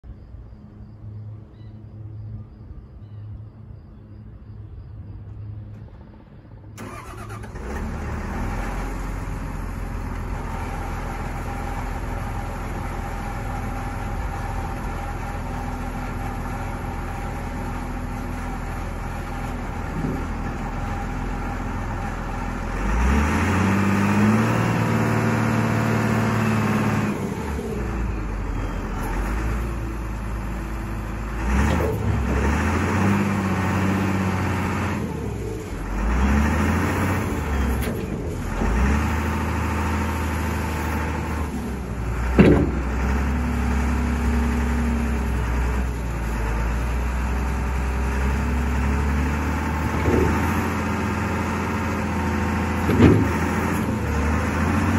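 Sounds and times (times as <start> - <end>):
diesel engine starting and revving: 6.6 - 54.9.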